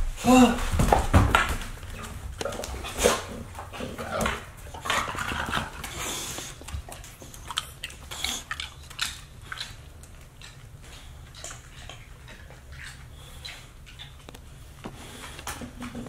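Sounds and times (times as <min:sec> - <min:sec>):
dogs sniffing and snuffling: 0:01.7 - 0:16.0.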